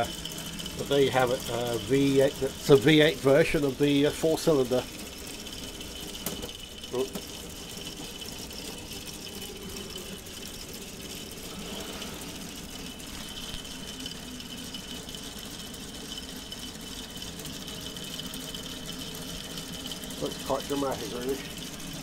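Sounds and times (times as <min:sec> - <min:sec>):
toy engine model whirring: 0:00.0 - 0:22.0.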